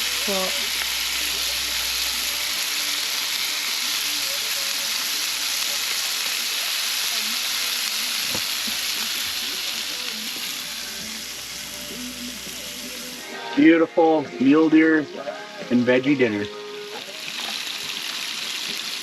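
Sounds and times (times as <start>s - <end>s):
meat sizzling in a frying pan: 0.0s - 13.6s, 14.7s - 19.0s.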